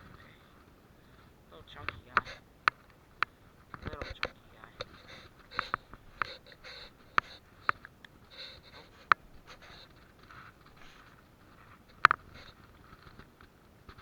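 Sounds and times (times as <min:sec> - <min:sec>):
soft rustling: 0:00.0 - 0:14.0
sharp clicks and ticks: 0:01.7 - 0:14.0.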